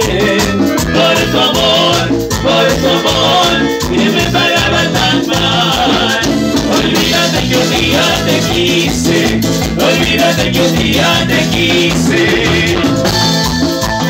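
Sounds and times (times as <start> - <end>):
congas: 0.0 - 14.0
keyboards: 0.0 - 14.0
live latin dance band: 0.0 - 14.0
rhythmic bass line: 0.0 - 14.0.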